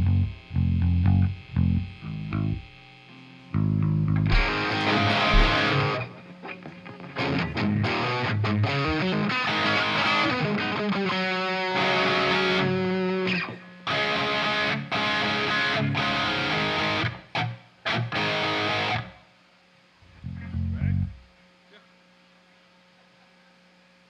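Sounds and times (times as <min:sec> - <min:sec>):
distorted electric guitar: 0:00.0 - 0:19.2, 0:20.0 - 0:21.3.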